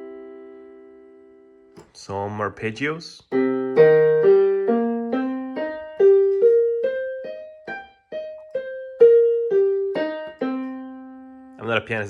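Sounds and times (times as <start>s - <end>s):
keyboard piano arpeggios: 0.0s - 1.8s, 3.3s - 11.8s.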